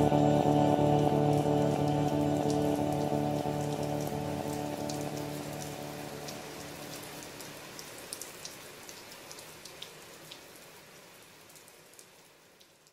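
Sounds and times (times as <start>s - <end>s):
rain patter: 0.0s - 12.9s.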